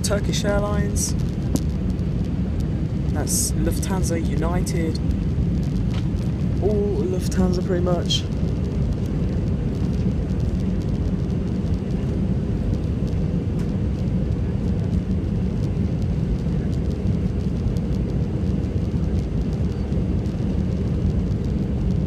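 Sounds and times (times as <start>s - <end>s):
airliner cabin engine rumble: 0.0s - 22.0s.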